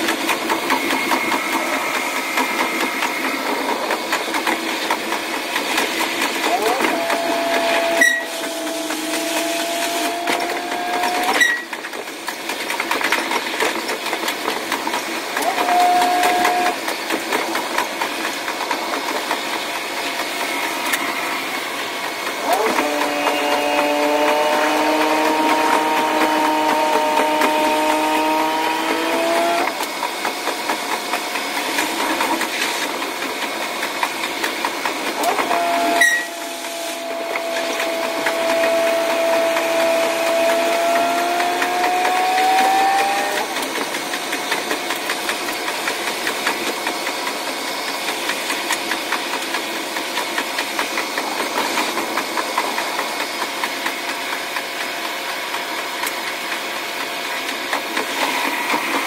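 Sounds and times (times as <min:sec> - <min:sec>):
diesel railcar engine: 0:00.0 - 0:59.0
wheels clicking over rail joints: 0:00.0 - 0:59.0.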